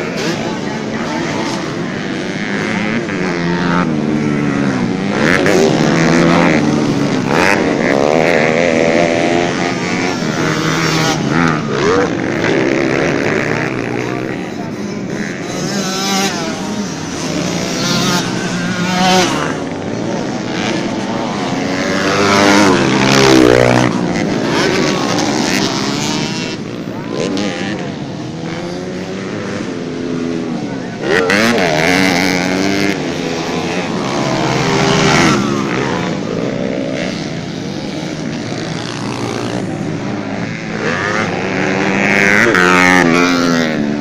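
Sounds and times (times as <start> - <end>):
dirt bike engines revving: 0.0 - 44.0
racing motorcycle passing by: 0.0 - 44.0.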